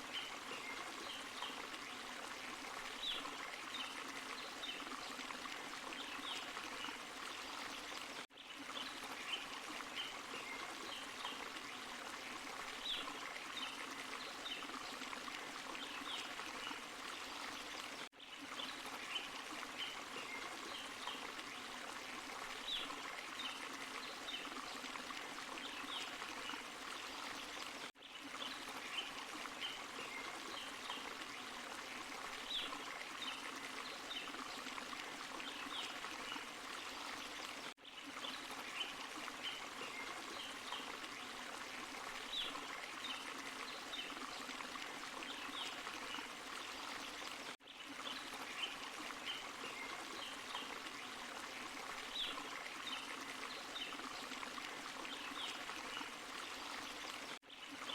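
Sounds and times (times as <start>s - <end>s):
stream and small waterfall rushing: 0.0s - 57.9s.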